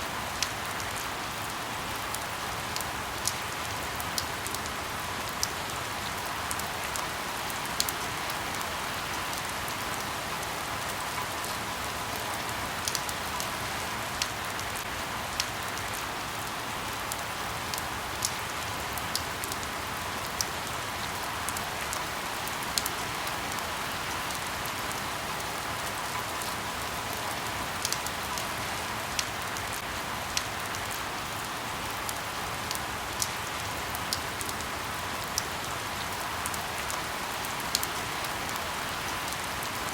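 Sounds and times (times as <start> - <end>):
rain hissing on leaves: 0.0 - 39.9
louder raindrops ticking: 0.2 - 39.9.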